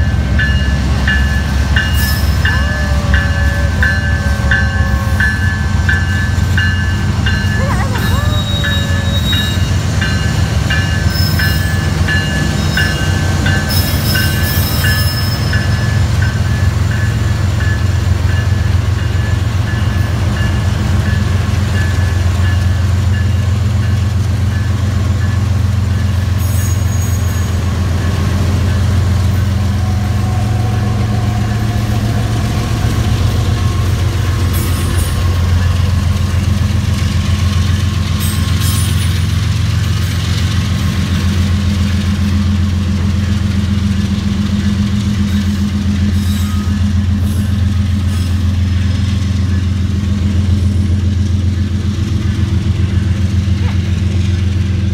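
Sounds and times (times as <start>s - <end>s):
diesel locomotive engines droning: 0.0s - 54.9s
train rumbling over rails: 0.0s - 54.9s.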